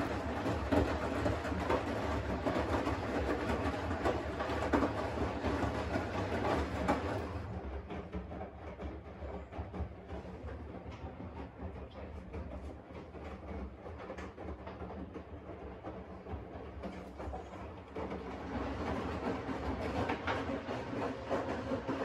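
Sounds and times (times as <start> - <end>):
washing machine clattering: 0.0 - 22.0
washing machine humming: 0.0 - 22.0.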